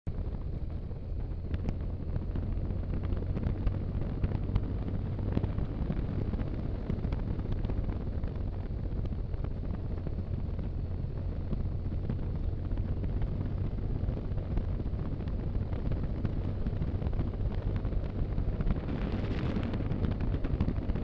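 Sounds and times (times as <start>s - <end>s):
wind buffeting microphone: 0.1s - 21.0s.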